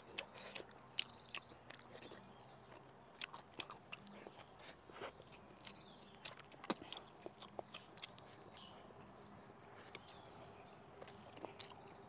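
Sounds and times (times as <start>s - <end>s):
wet chewing smacks: 0.0s - 12.0s.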